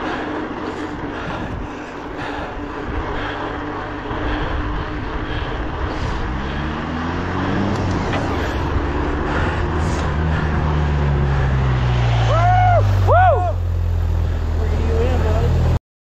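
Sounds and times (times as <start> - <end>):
bicycle tyre noise: 0.0 - 15.4
rising hum: 0.0 - 15.8
wind: 0.0 - 15.8.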